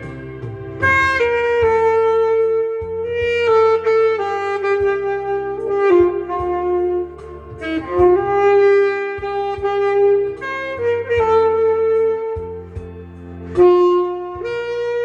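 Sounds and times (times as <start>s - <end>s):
saxophone playing slow melody: 0.0s - 15.0s
steady bass line: 0.0s - 15.0s.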